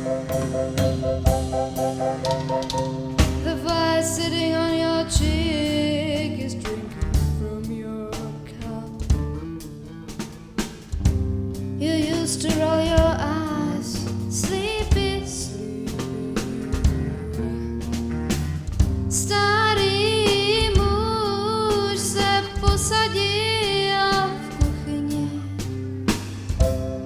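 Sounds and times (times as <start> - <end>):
band playing a song: 0.0 - 13.2, 14.0 - 21.1, 22.0 - 27.0
drum kit: 0.0 - 27.0.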